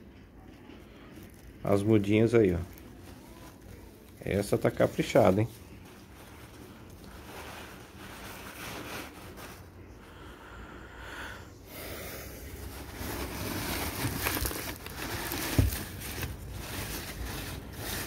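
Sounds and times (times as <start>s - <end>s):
paper wrapping rustling: 0.7s - 9.9s, 12.4s - 18.0s.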